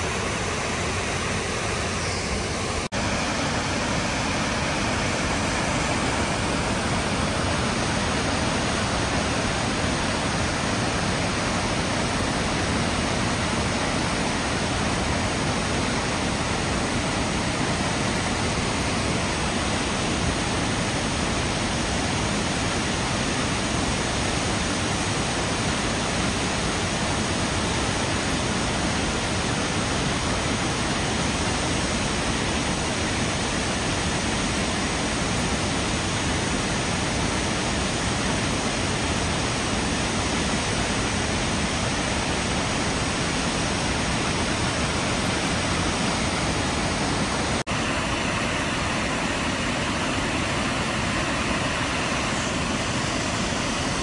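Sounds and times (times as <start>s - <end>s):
waterfall rushing over rock ledge: 0.0s - 54.0s.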